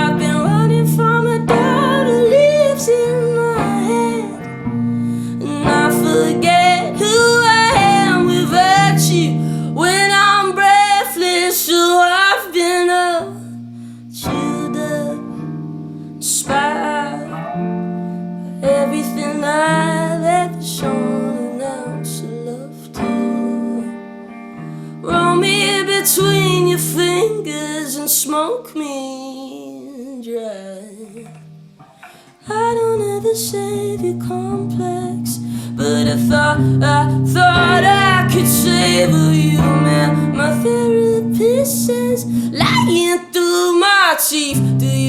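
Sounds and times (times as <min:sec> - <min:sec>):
person singing: 0:00.0 - 0:18.0, 0:18.6 - 0:45.0
guitar: 0:00.0 - 0:45.0.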